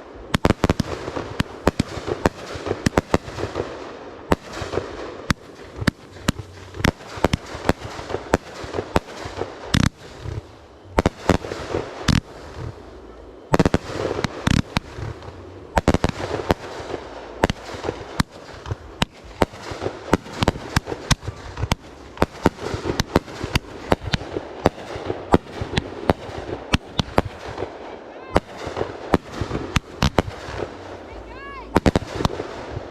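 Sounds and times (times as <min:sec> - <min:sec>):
fireworks bangs and pops: 0:00.0 - 0:32.9.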